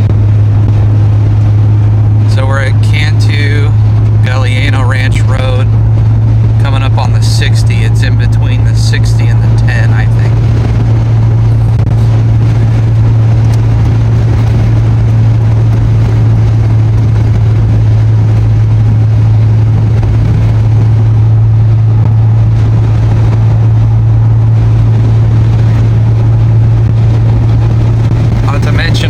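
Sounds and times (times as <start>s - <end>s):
low drone: 0.0s - 29.0s
road noise: 0.0s - 29.0s
strong wind on car: 0.0s - 29.0s.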